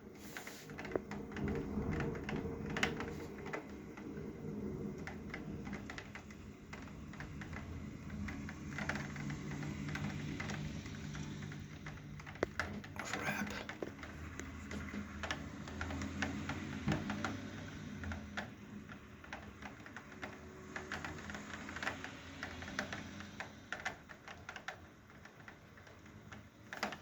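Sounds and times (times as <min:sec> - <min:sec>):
light clicks and taps: 0:00.0 - 0:27.0.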